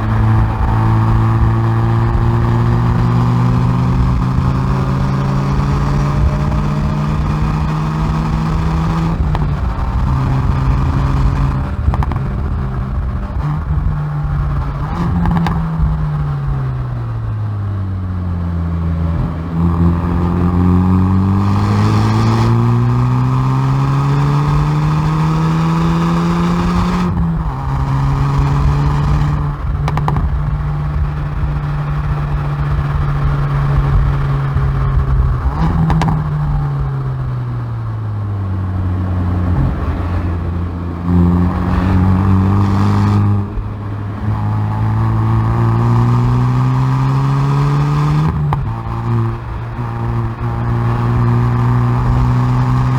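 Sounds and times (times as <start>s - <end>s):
car engine and exhaust revving: 0.0s - 52.9s.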